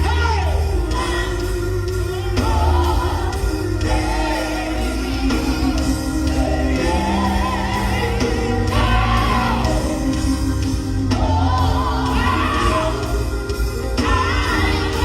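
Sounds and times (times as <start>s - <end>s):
band playing gospel music: 0.0s - 15.0s
heavy bass line: 0.0s - 15.0s
person singing gospel: 0.0s - 15.0s.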